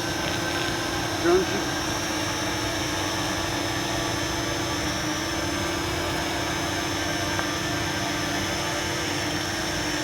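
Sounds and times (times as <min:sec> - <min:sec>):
drone propellers humming: 0:00.0 - 0:10.0.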